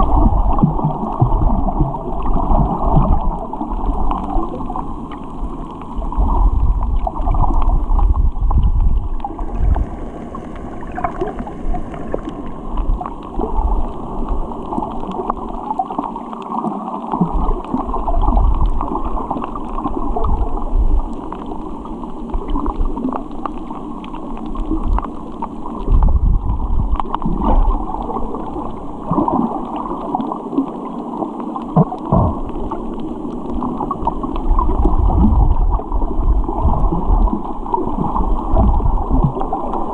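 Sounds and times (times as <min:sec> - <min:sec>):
muffled underwater water rumble: 0:00.0 - 0:39.9
small crackles and ticks: 0:00.0 - 0:39.9.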